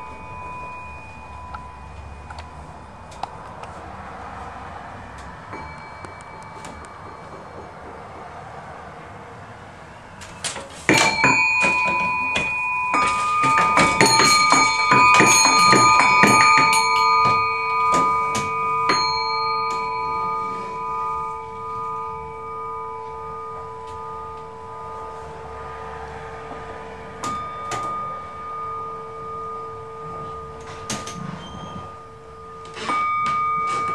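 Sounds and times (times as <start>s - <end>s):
bells struck quickly: 0.0s - 8.9s, 10.9s - 33.9s.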